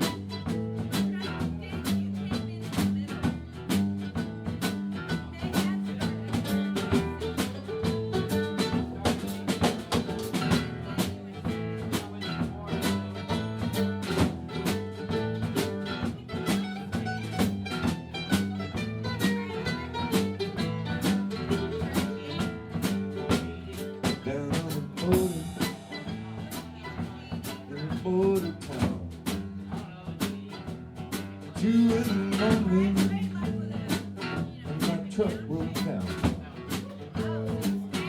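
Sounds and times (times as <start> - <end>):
drum kit beat: 0.0 - 38.0
live blues band playing: 0.0 - 38.0.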